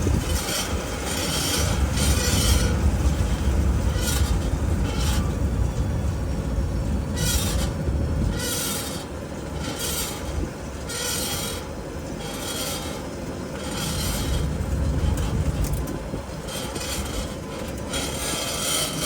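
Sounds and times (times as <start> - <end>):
low road rumble: 0.0 - 19.0
metal grinding from wheel: 0.0 - 19.0.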